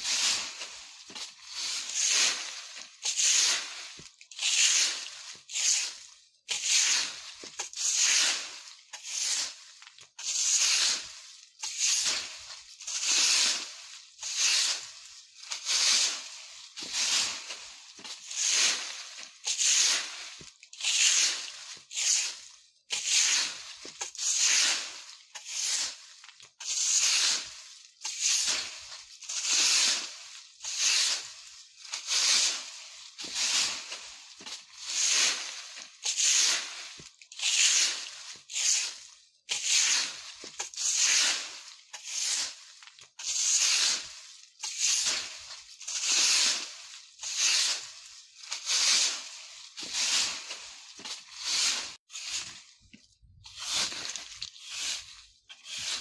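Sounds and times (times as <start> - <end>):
broom sweeping dry leaves: 0.0 - 56.0.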